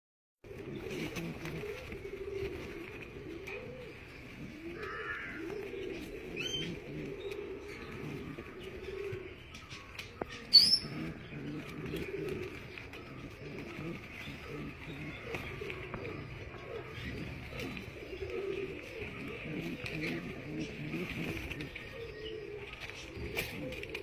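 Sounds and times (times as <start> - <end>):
pigeons cooing: 0.4 - 24.0.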